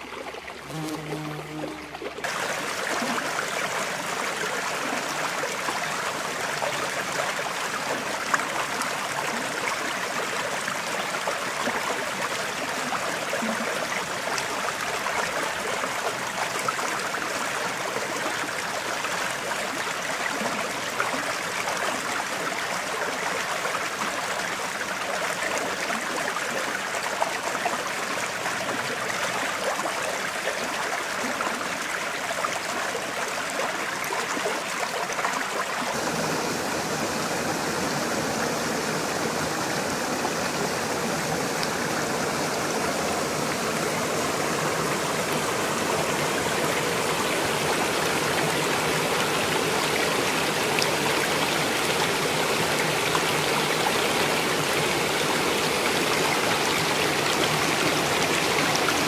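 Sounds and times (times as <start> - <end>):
stream running water: 0.0 - 59.0.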